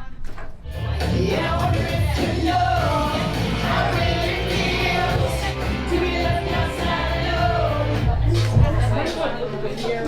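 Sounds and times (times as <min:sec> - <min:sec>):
pop song with singing: 0:00.6 - 0:10.0.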